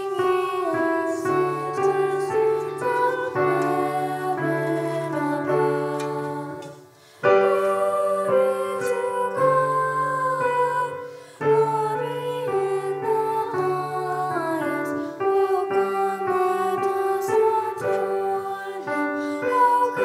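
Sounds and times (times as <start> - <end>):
slow gentle keyboard music: 0.0 - 20.0.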